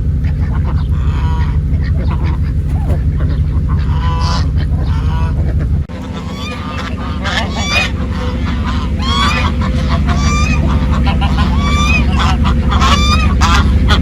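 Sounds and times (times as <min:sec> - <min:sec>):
low rumble: 0:00.0 - 0:14.0
poultry calling: 0:00.0 - 0:14.0.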